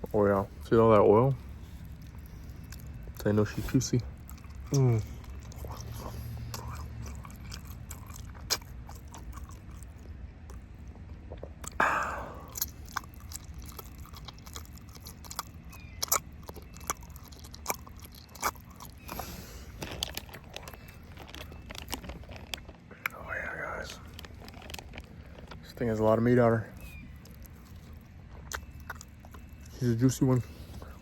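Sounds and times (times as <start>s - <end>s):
chewing with wet mouth smacks: 0.0s - 31.0s.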